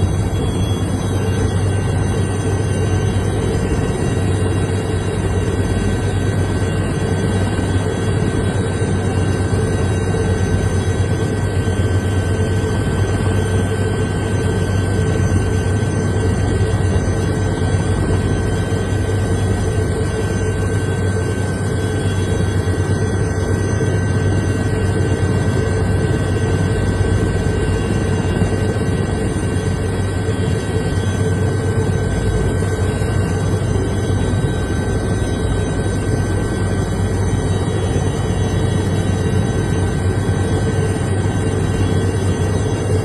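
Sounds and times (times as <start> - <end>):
helicopter engine and rotor drone: 0.0 - 43.0
steady whine: 0.0 - 43.0.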